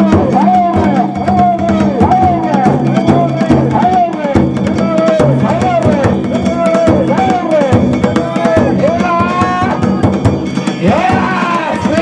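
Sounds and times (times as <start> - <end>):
high melodic line: 0.0 - 12.0
taiko drum beat: 0.0 - 12.0.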